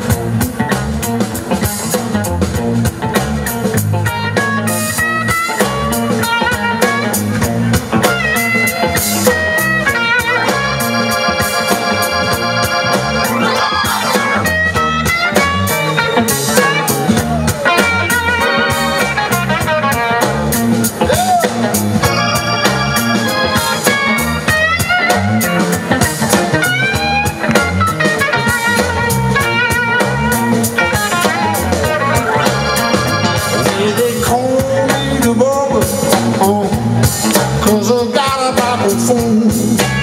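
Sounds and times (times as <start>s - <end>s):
electric guitar lines: 0.0s - 37.4s
blues band playing: 0.0s - 40.0s.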